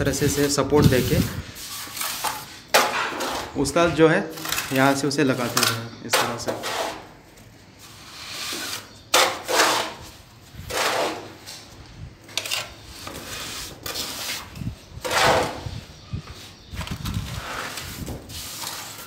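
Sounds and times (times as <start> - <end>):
trowel scraping mortar: 0.1 - 7.2, 7.8 - 11.7, 12.4 - 15.7, 16.9 - 19.0.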